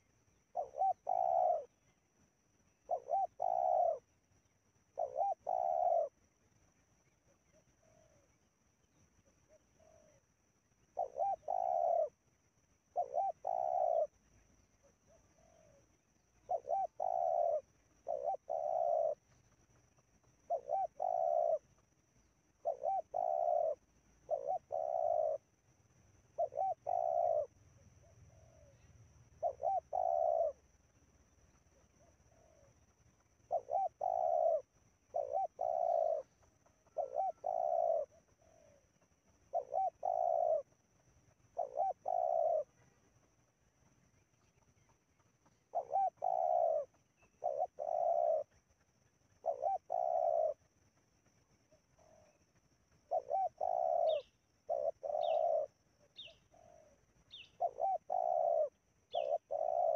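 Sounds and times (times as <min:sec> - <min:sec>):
dove cooing: 0:00.0 - 0:01.9, 0:02.7 - 0:04.2, 0:04.8 - 0:06.3, 0:07.3 - 0:08.4, 0:09.2 - 0:25.6, 0:26.3 - 0:30.8, 0:31.5 - 0:43.5, 0:44.1 - 0:59.9.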